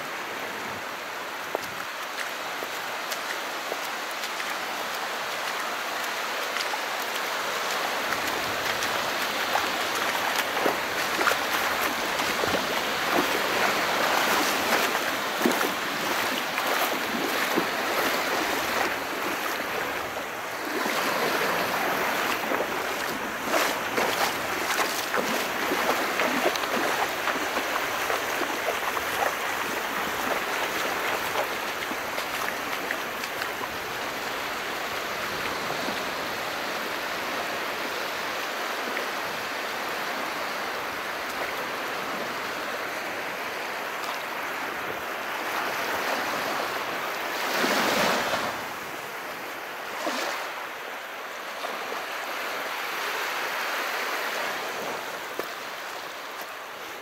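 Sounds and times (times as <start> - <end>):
small waves washing in: 0.0 - 57.0.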